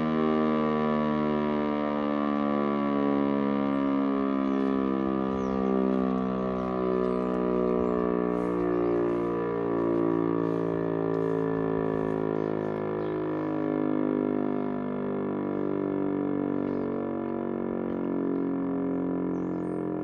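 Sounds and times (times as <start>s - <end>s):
electric siren steady tone: 0.0s - 20.0s.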